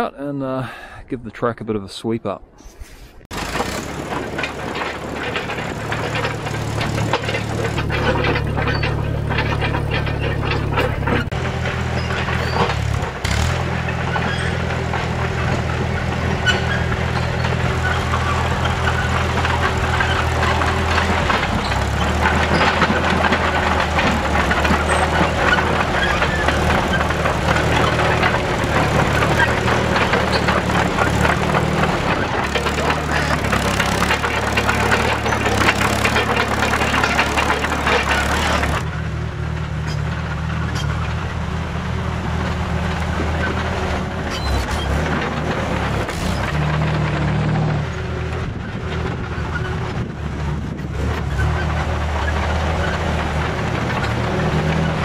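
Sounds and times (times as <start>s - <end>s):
steel tracks clattering: 3.3s - 41.4s, 42.3s - 50.1s
dozer engine running: 3.3s - 55.0s.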